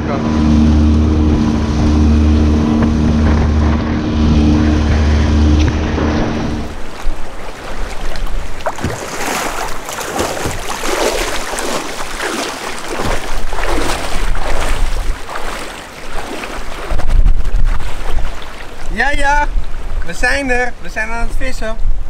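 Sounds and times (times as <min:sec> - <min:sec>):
wind buffeting microphone: 0:00.0 - 0:09.8, 0:10.4 - 0:20.1
water splashing and sloshing: 0:00.0 - 0:20.2.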